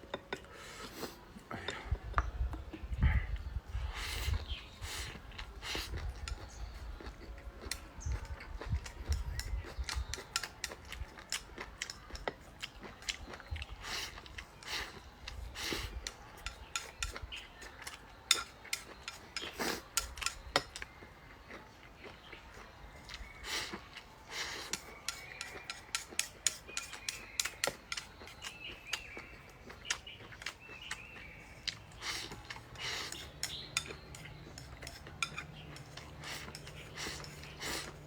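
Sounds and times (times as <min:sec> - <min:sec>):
utensils clinking against bowl: 0:00.0 - 0:00.7, 0:05.4 - 0:21.1, 0:22.5 - 0:38.0.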